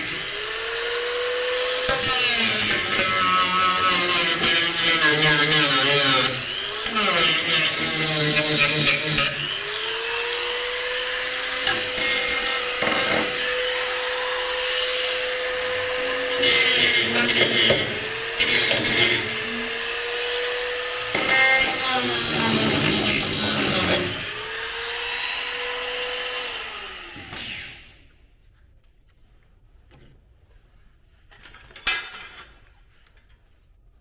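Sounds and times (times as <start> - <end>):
power tool grinding metal: 0.0 - 28.0.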